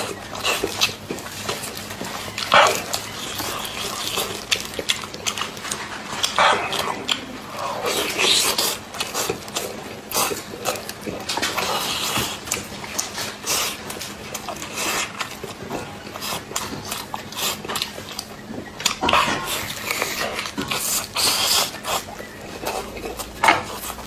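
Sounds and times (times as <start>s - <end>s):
wet chewing and lip-smacking: 0.0s - 24.0s.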